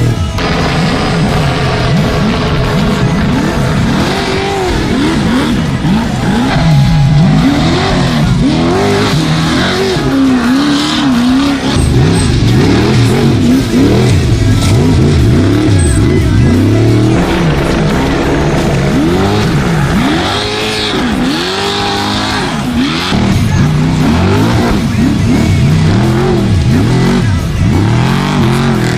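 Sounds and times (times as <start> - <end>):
background music: 0.0 - 28.9
race truck engines revving: 0.0 - 28.9.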